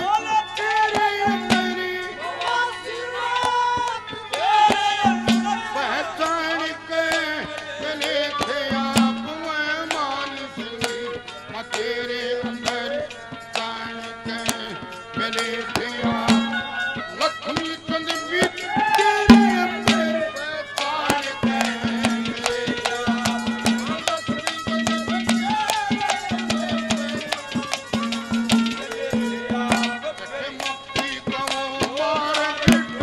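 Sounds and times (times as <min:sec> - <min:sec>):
man singing folk music: 0:00.0 - 0:33.0
hand drum: 0:00.9 - 0:02.0, 0:03.4 - 0:06.0, 0:07.1 - 0:10.0, 0:10.6 - 0:30.2, 0:30.9 - 0:33.0.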